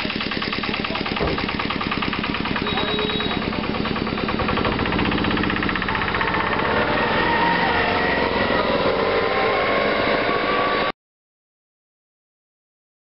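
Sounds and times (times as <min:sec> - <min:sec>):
engine running with fast pulse: 0:00.0 - 0:10.9.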